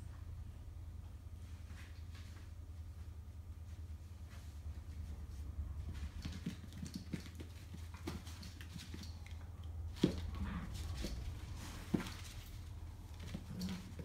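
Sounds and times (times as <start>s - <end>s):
dog paws scuffling and pattering: 1.4s - 14.0s.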